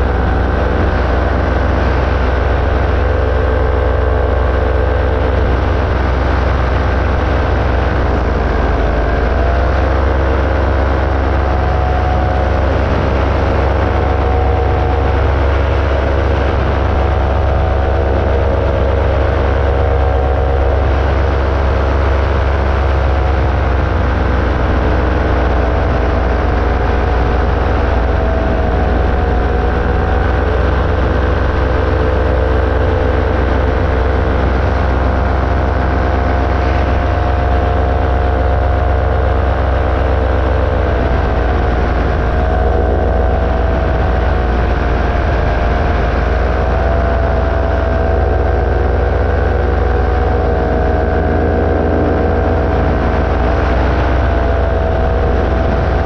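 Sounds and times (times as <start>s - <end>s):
aircraft engine droning: 0.0s - 56.0s
heavy low rumble: 0.0s - 56.0s.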